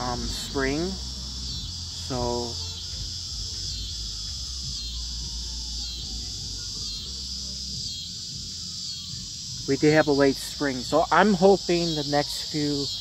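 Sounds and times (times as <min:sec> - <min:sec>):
low steady rumble: 0:00.0 - 0:11.8
crickets chirping: 0:00.0 - 0:13.0.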